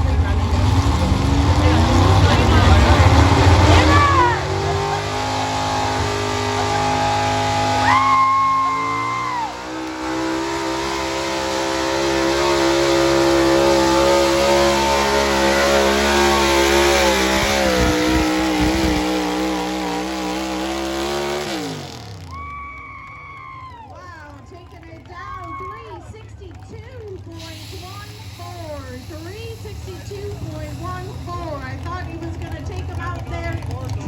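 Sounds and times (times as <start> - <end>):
truck engine at full throttle: 0.0 - 22.7, 25.9 - 34.0.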